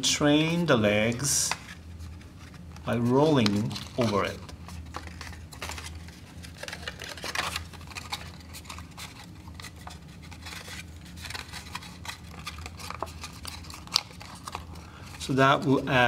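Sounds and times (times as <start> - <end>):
cardstock rustling and scraping: 0.3 - 16.0.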